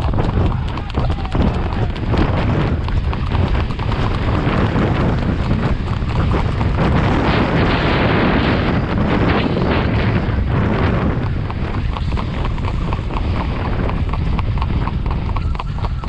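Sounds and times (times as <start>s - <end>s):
horse hooves beating: 0.0s - 16.0s
wind buffeting microphone: 0.0s - 16.0s.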